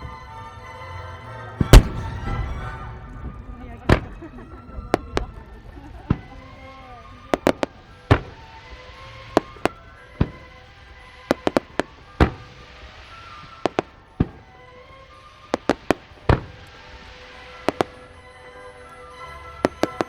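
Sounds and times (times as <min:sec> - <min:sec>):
crackling hiss: 0:00.0 - 0:20.0
fireworks bangs: 0:00.0 - 0:20.0
heavy fireworks booms: 0:00.0 - 0:20.0
music: 0:00.0 - 0:20.0.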